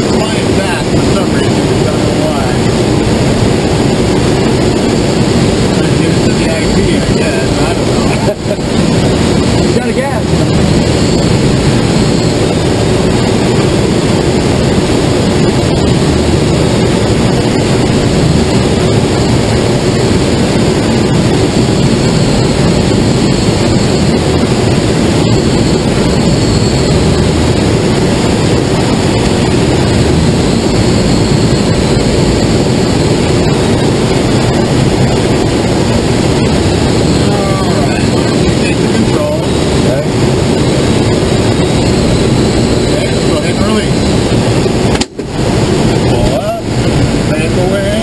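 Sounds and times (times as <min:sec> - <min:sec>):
air rushing over glider: 0:00.0 - 0:48.0.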